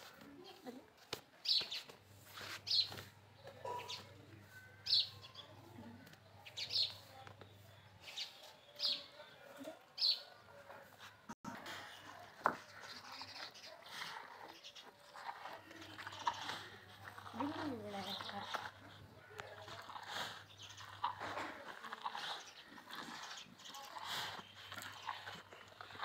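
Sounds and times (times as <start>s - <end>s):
birds chirping: 2.6s - 10.8s, 11.8s - 26.0s.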